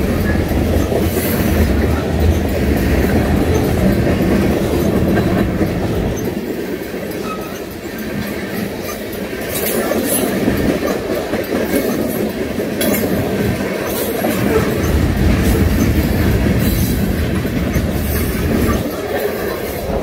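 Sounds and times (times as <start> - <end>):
freight train rumble: 0.0 - 20.0
wheels clacking over rail joints: 0.0 - 20.0.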